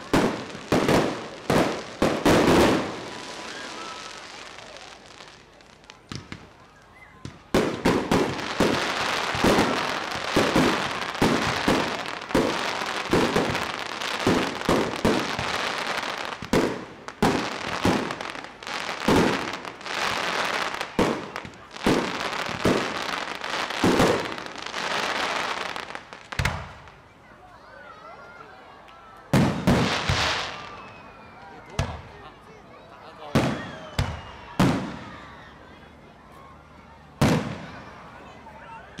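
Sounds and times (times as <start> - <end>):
fireworks crackling: 0.0 - 27.1, 29.3 - 32.5, 33.1 - 35.2, 37.2 - 39.0.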